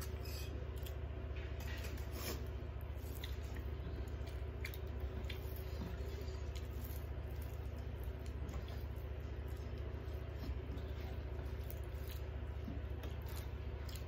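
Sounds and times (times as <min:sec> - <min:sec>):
steady low hum: 0:00.0 - 0:14.0
chewing: 0:00.7 - 0:14.0.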